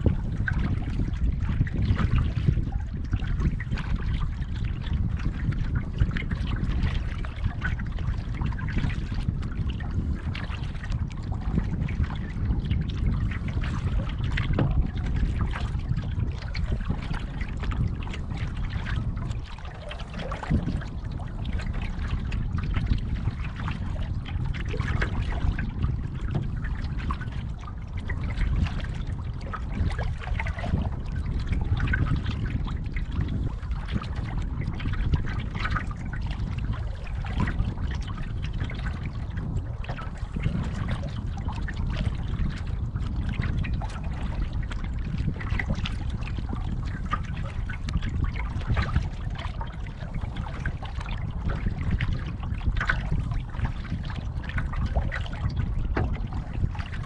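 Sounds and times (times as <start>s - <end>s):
low rumble: 0.0s - 57.0s
water splashing against canoe: 0.0s - 57.0s.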